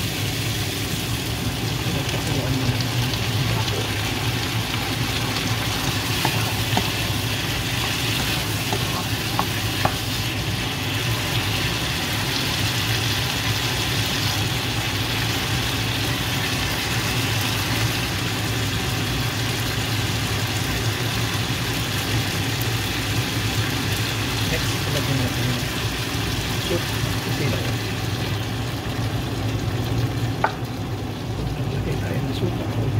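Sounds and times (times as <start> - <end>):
meat sizzling in a frying pan: 0.0 - 32.9.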